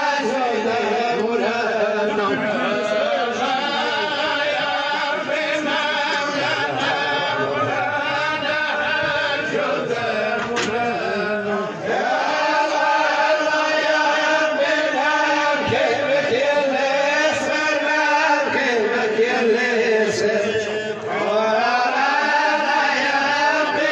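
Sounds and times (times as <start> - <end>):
men chanting: 0.0 - 23.9.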